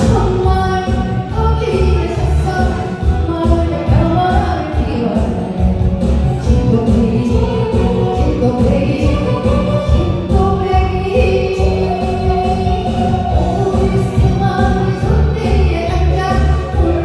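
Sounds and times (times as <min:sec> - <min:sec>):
backing track with bass beat: 0:00.0 - 0:17.0
pop song vocals: 0:00.0 - 0:17.0.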